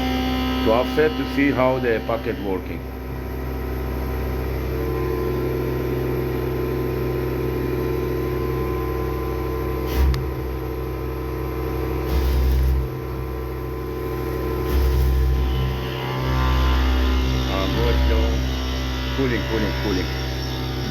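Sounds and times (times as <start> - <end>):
milling machine humming: 0.0 - 20.9.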